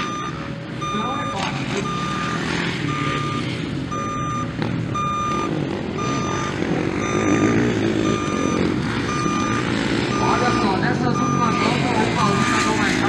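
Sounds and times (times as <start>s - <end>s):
motocross bike engines running: 0.0s - 13.0s
reversing alarm beeping: 0.0s - 13.0s.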